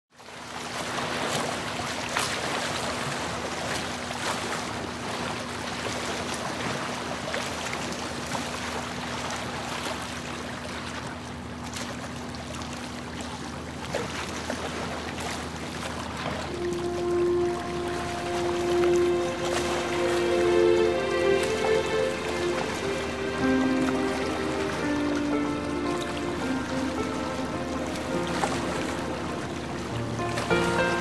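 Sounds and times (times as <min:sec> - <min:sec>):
water splashing along hull: 0:00.2 - 0:31.0
motorboat engine hum: 0:00.6 - 0:31.0.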